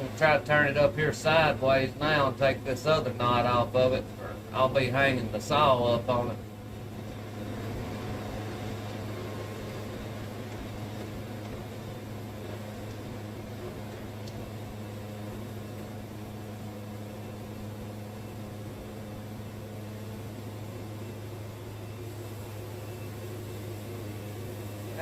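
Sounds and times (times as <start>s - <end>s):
sawmill engine humming: 0.0s - 25.0s.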